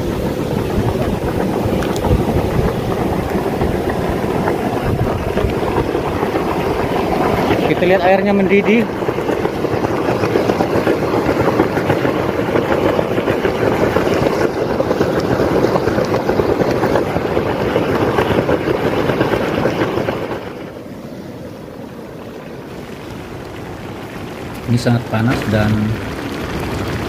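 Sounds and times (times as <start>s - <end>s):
hot spring water bubbling: 0.0s - 27.0s.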